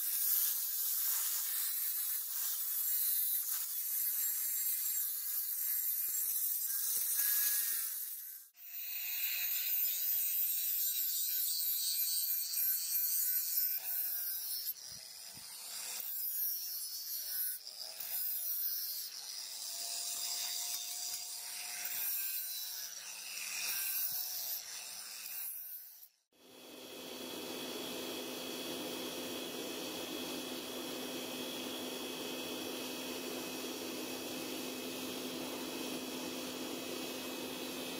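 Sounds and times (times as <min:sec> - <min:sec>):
angle grinder grinding metal: 0:00.0 - 0:37.9.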